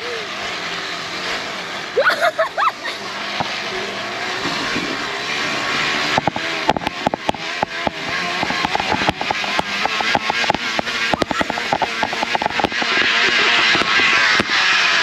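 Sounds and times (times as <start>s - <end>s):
bicycle riding rushing noise: 0.0s - 15.0s.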